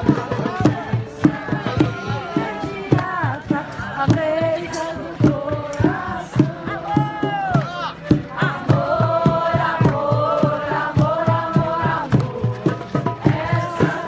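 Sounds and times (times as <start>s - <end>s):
group of voices chanting: 0.0s - 14.0s
steady drum beat: 0.0s - 14.0s.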